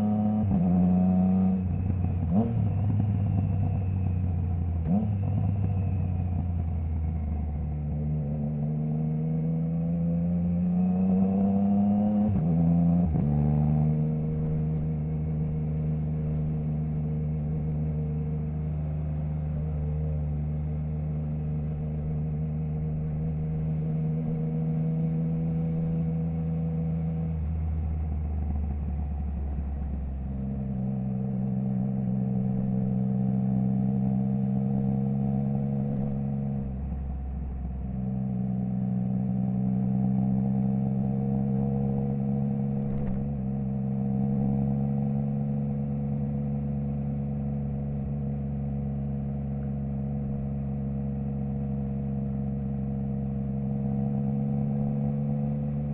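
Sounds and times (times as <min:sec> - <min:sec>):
motorcycle engine revving: 0:00.0 - 0:37.3, 0:37.9 - 0:55.9.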